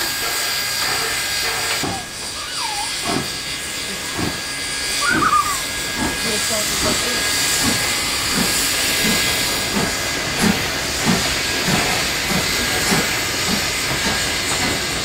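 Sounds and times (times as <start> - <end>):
low regular locomotive beat: 0.0 - 15.0
steam locomotive hissing: 0.0 - 15.0.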